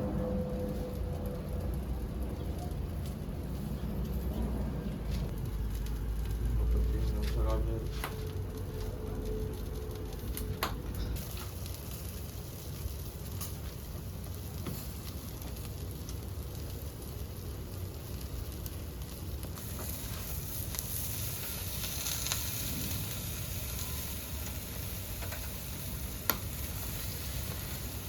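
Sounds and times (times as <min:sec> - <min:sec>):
steady sizzling hiss: 0:00.0 - 0:28.0.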